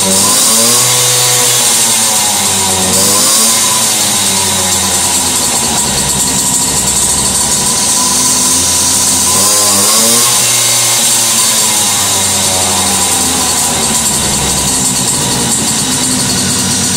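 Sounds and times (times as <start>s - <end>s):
moped engine revving: 0.0s - 16.9s.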